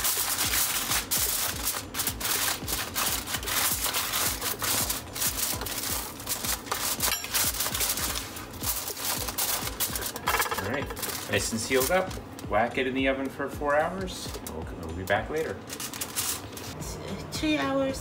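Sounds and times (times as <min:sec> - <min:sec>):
aluminium foil crinkling: 0:00.0 - 0:13.4, 0:14.1 - 0:16.8
background music with low beat: 0:00.0 - 0:18.0.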